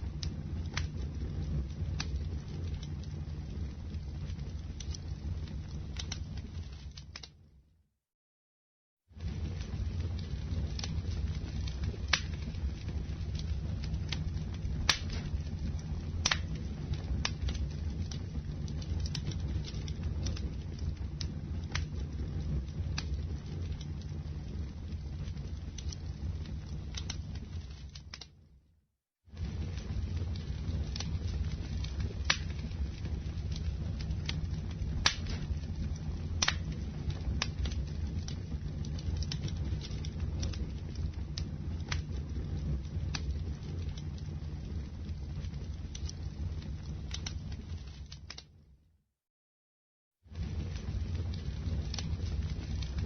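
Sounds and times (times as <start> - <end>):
campfire crackles and pops: 0.0 - 7.5, 9.2 - 28.4, 29.3 - 48.6, 50.3 - 53.0
campfire low rumble: 0.0 - 7.6, 9.0 - 28.5, 29.2 - 48.8, 50.2 - 53.0.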